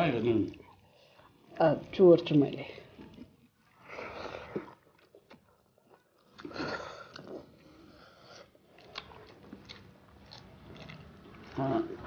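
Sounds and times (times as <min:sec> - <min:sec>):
people chewing food: 0:00.0 - 0:12.0.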